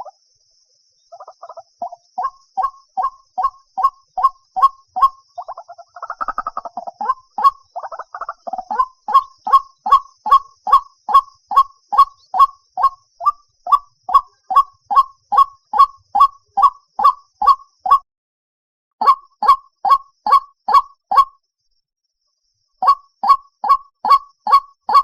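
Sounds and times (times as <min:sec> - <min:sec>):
waterhen calling: 0:01.1 - 0:18.0, 0:19.0 - 0:21.3, 0:22.8 - 0:25.0.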